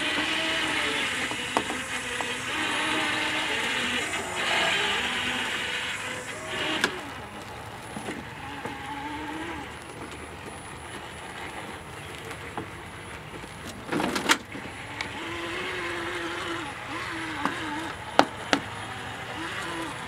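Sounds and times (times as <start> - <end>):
electric drive motors whining: 0.0 - 20.0.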